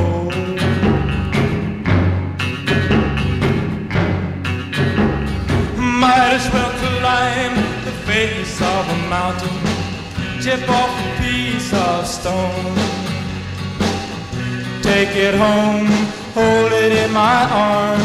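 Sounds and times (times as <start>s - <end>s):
rock and roll music: 0.0s - 18.0s.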